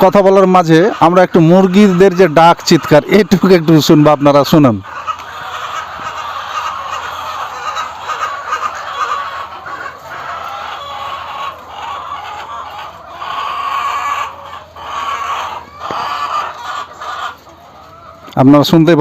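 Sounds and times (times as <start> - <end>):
hens clucking and squawking: 0.0 - 19.0.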